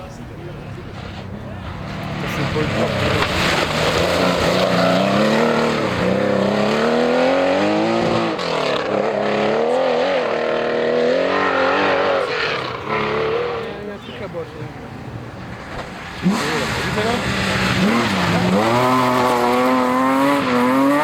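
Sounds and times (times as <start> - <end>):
rally car engine accelerating: 0.7 - 14.0, 15.5 - 21.0.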